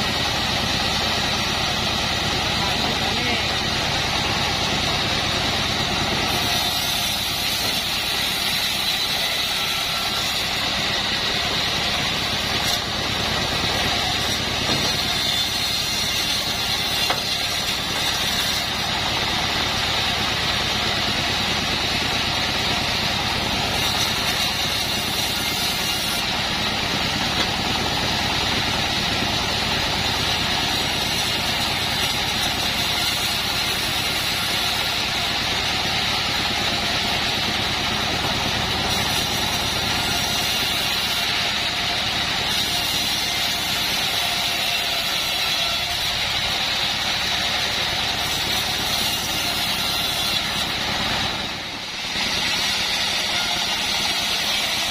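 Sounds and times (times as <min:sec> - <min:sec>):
bandsaw mill sawing wood: 0:00.0 - 0:54.9.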